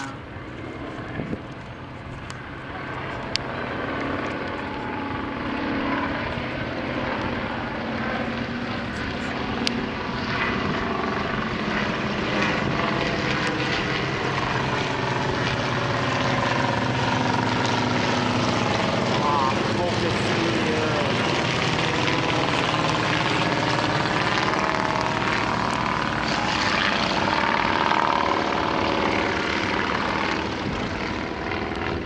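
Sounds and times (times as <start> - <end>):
propeller planes droning overhead: 0.0 - 32.0.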